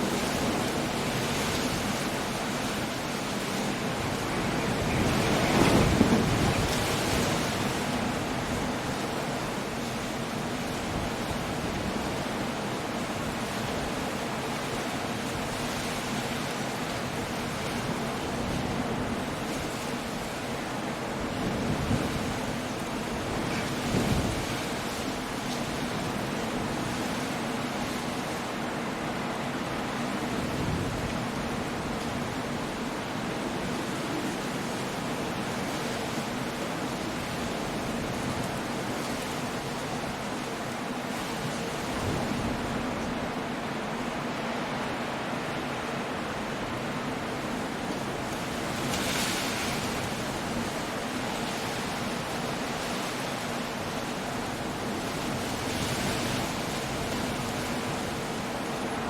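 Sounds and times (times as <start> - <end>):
rain: 0.0 - 59.0
storm surf: 0.0 - 59.0
wind: 0.0 - 59.0.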